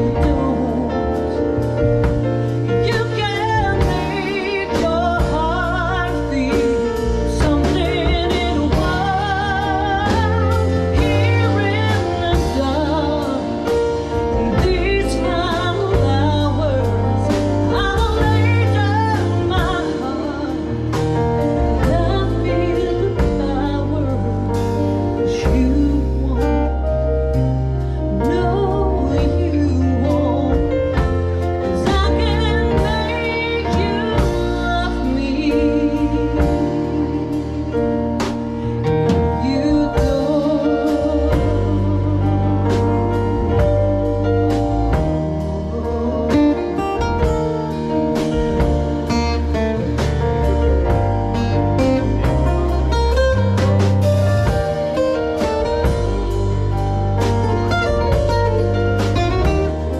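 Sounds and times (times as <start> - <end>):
woman singing with vibrato: 0.0 - 27.0, 28.0 - 38.2, 39.1 - 47.9, 55.4 - 59.9
instrumental accompaniment with bass: 0.0 - 59.9.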